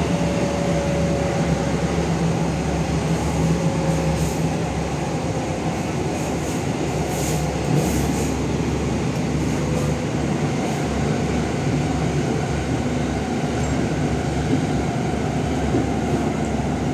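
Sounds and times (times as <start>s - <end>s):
train wheels rumbling on track: 0.0s - 16.9s.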